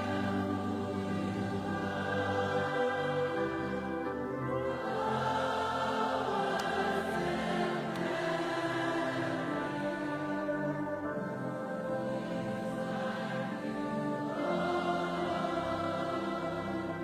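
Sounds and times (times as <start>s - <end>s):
choir singing slow worship music: 0.0s - 17.0s.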